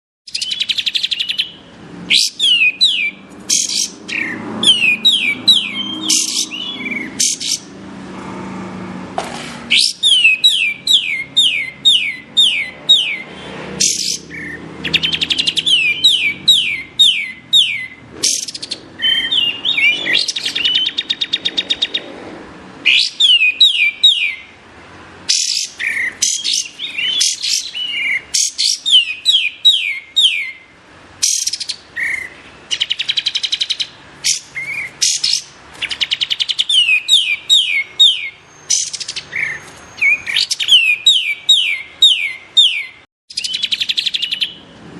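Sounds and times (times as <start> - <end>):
songbird whistling song: 0.3 - 7.7, 9.7 - 22.1, 22.8 - 24.6, 25.3 - 44.6
buzzy bird trills: 0.3 - 7.8, 9.7 - 22.1, 25.3 - 30.6, 31.2 - 44.6.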